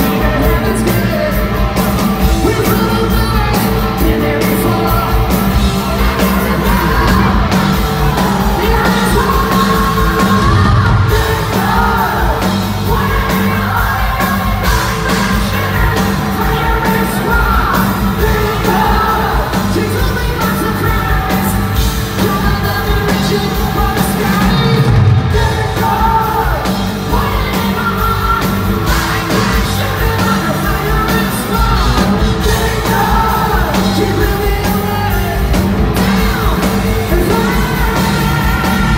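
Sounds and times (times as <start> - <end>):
drums: 0.0 - 38.9
electric guitar: 0.0 - 38.9
man singing and yelling: 0.0 - 38.9.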